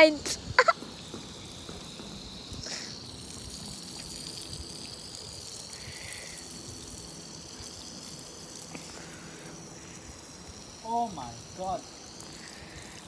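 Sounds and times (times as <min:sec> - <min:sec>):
garden hose spraying water: 0:00.0 - 0:13.0.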